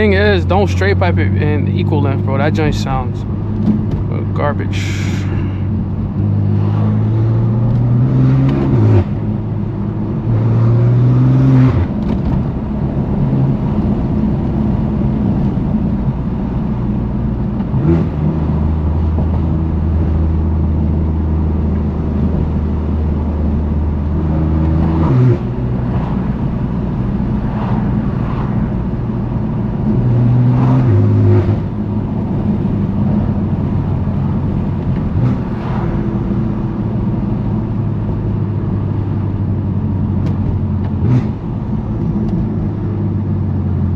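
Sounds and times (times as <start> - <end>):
car exhaust accelerating: 0.0 - 43.9.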